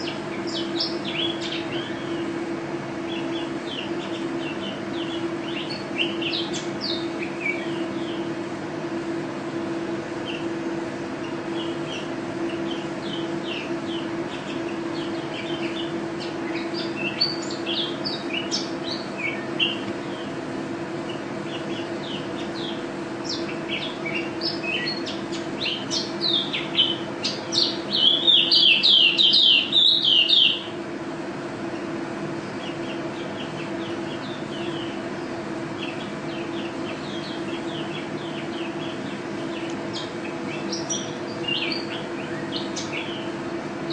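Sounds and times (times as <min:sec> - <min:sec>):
songbird twittering: 0:00.0 - 0:02.3, 0:03.1 - 0:08.3, 0:11.2 - 0:20.3, 0:21.1 - 0:30.7, 0:32.4 - 0:43.3
steady low hum: 0:00.0 - 0:43.9.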